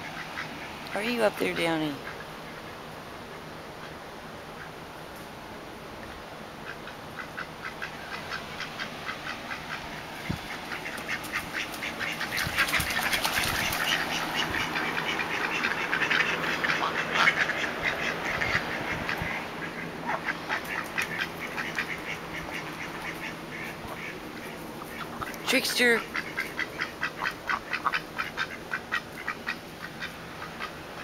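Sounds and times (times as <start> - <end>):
ducks quacking: 0.0 - 4.8, 6.0 - 31.0.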